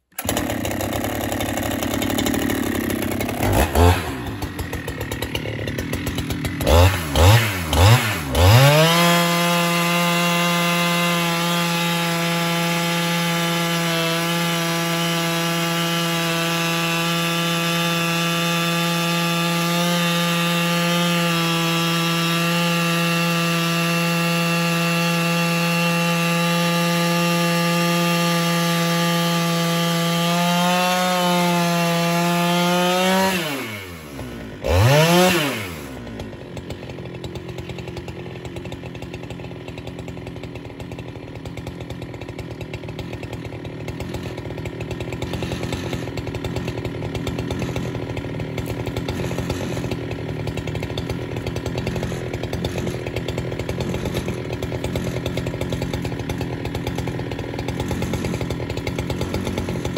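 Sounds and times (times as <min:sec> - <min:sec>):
chainsaw cutting log: 0:00.0 - 0:59.9
chainsaw idling: 0:00.0 - 0:59.9.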